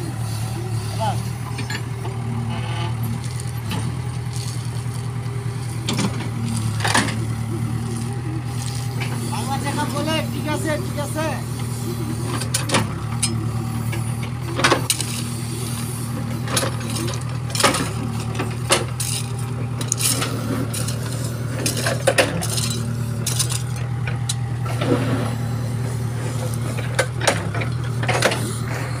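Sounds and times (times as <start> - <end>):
diesel engine running: 0.0 - 29.0
crushed stone clinking and scraping: 1.0 - 29.0.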